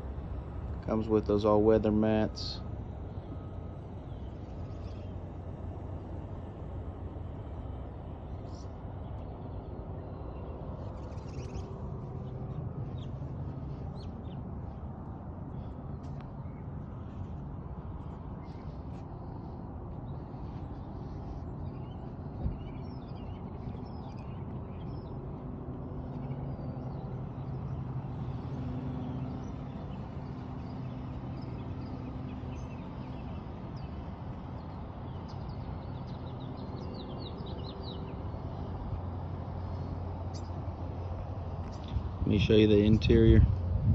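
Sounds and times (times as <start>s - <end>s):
low outdoor rumble: 0.0s - 43.9s
small birds chirping: 0.0s - 43.9s.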